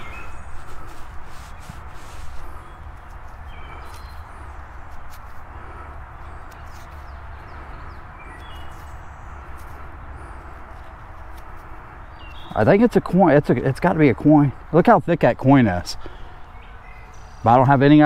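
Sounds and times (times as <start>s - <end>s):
steady low rumble: 0.0s - 14.8s
songbirds chirping and whistling: 0.0s - 18.0s.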